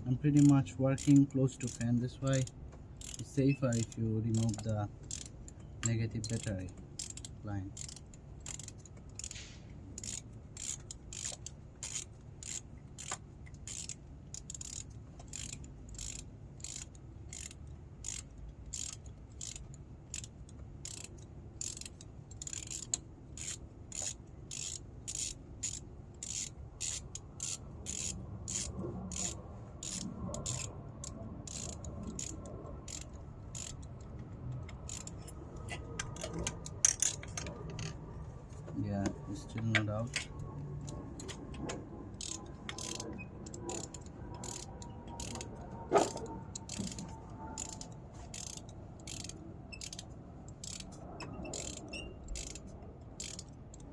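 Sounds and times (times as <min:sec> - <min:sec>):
socket ratchet clicking: 0:00.3 - 0:38.0, 0:39.6 - 0:53.9.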